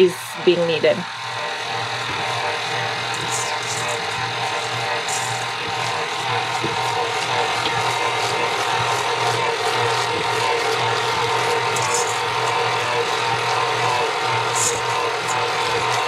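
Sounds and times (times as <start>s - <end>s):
stand mixer kneading dough: 0.0s - 16.0s.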